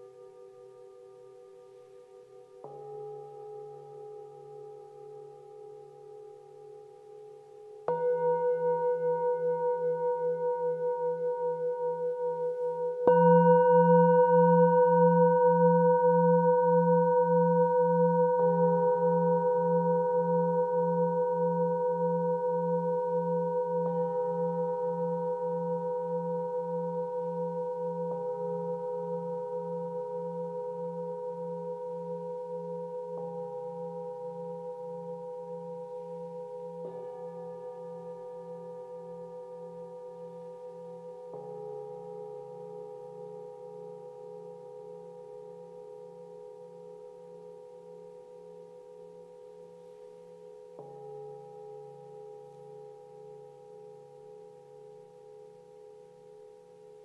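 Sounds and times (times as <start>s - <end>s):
singing bowls struck with mallet: 2.6s - 49.3s.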